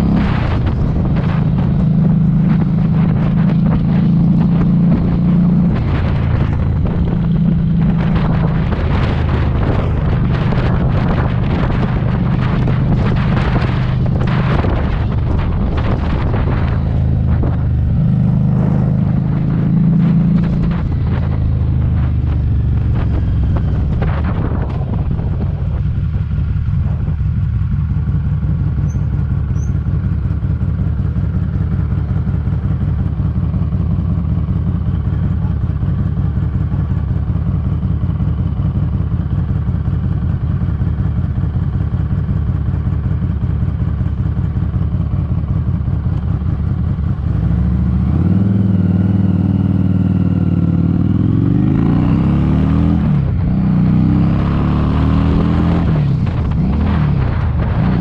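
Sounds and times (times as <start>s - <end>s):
wind buffeting microphone: 0.0s - 36.6s, 44.8s - 58.0s
motorcycle engine running: 0.0s - 58.0s.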